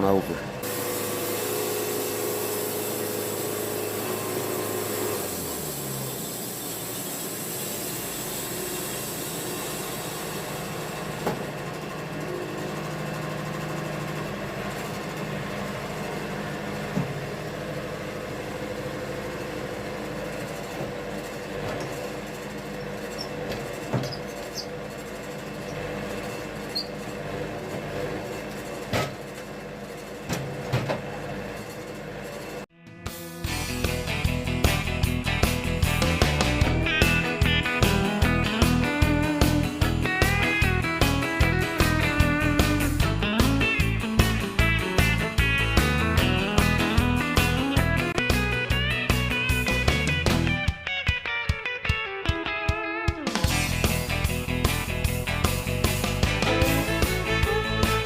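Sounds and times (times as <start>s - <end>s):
sawmill humming: 0.0s - 50.5s, 53.4s - 58.0s.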